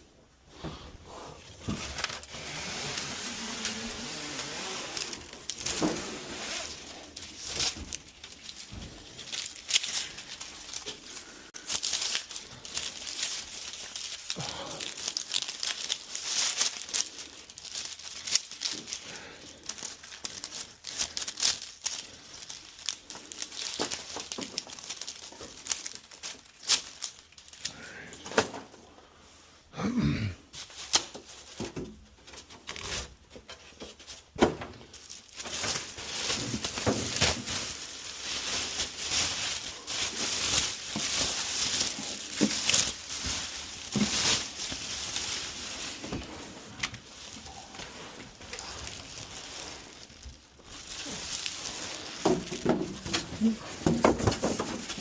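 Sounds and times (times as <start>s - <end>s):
material crinkling and tearing: 1.1s - 28.8s, 30.5s - 55.0s.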